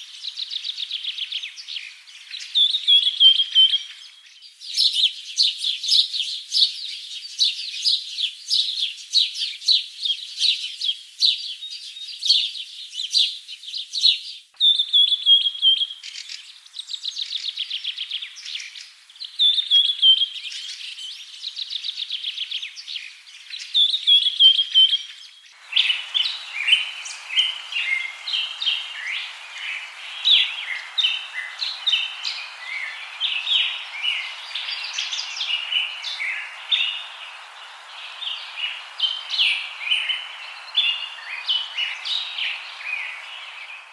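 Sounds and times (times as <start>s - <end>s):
steady hiss: 0.0s - 10.0s, 14.5s - 43.9s
songbirds chirping: 0.0s - 43.9s.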